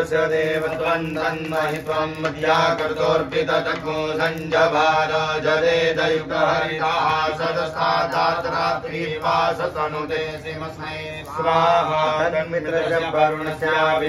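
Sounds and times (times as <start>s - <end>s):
priests chanting: 0.0s - 14.0s.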